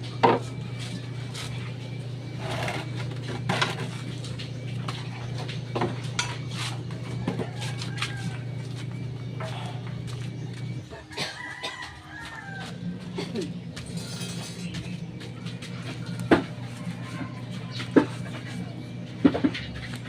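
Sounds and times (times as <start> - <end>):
motor hum: 0.0 - 20.0.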